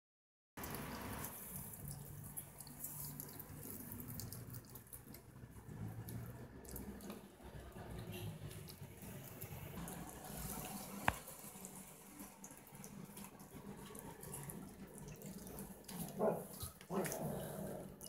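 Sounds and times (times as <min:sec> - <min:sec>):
kitten chewing and smacking: 0:01.2 - 0:17.2.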